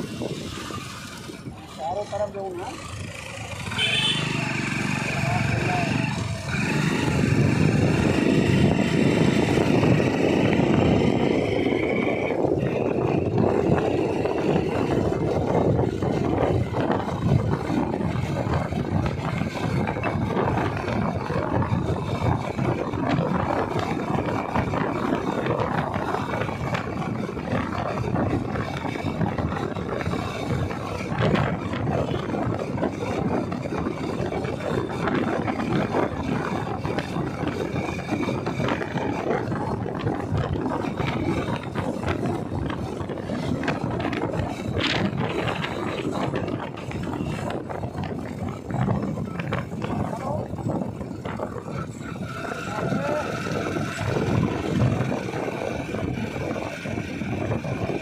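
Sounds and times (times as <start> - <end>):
vehicle rumbling on road: 0.0 - 58.0
wind buffeting microphone: 0.0 - 58.0.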